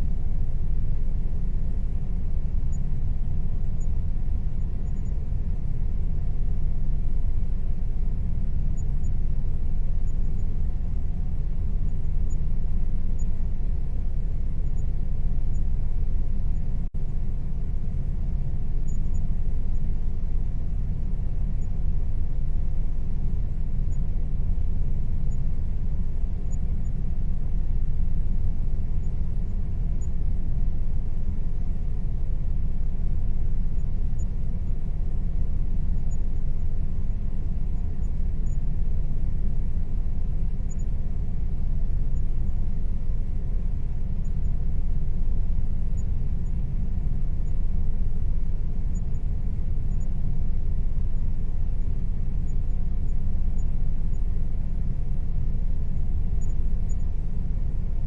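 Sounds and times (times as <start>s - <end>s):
air conditioner hum: 0.0s - 58.0s
faint steady tone: 0.0s - 58.0s.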